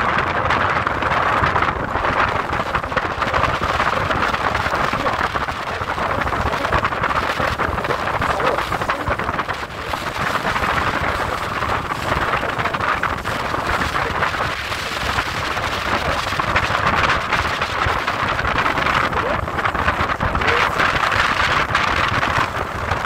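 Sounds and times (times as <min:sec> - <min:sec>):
boat engine: 0:00.0 - 0:23.0
water rushing: 0:00.0 - 0:23.0
wind buffeting microphone: 0:00.0 - 0:23.0.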